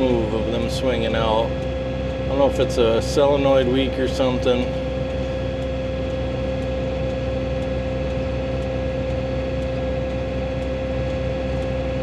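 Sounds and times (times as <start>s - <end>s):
faint ticking: 0.0s - 12.0s
tractor engine humming with whine: 0.0s - 12.0s.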